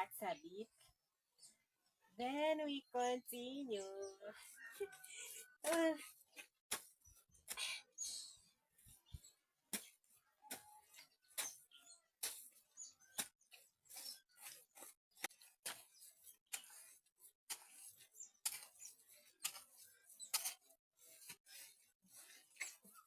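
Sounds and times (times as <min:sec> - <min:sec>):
mud being mixed: 0:03.3 - 0:23.0.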